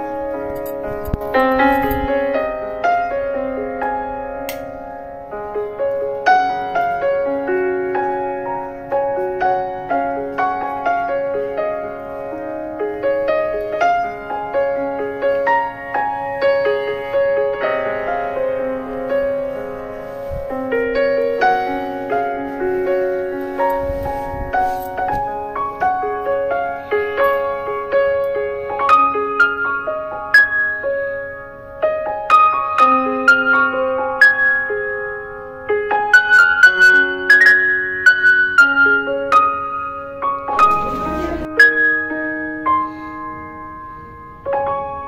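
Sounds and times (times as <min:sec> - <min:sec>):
instrumental piano music: 0:00.0 - 0:45.0.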